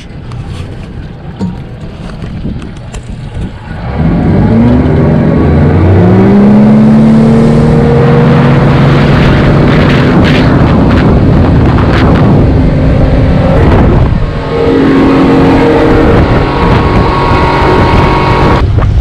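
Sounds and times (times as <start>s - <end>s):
outboard engine running: 0.0s - 19.0s
rushing water: 0.0s - 19.0s
rushing wind: 0.0s - 19.0s.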